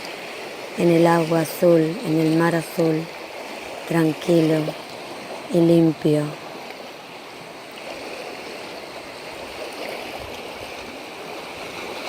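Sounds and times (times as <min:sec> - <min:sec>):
sea waves washing on shore: 0:00.0 - 0:12.0.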